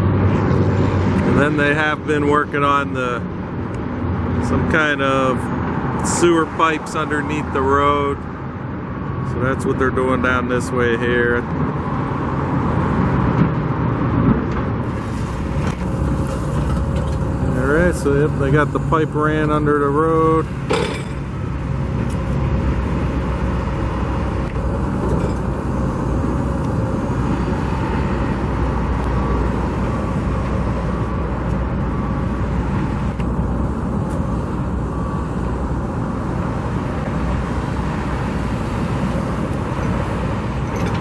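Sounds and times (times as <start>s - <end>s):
cars passing on street: 0.0s - 41.0s.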